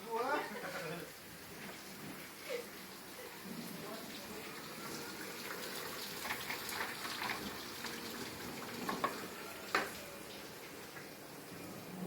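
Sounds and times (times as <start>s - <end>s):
rain falling steadily: 0.0s - 12.0s.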